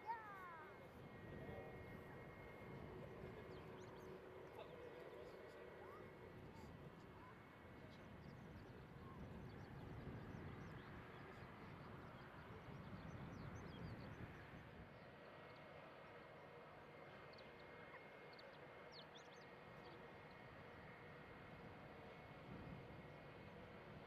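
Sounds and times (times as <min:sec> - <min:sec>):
distant jet engines: 0:00.0 - 0:24.0.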